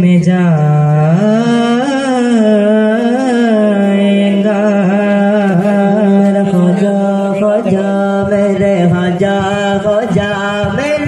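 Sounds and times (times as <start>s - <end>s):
men singing a long note: 0.0s - 11.0s.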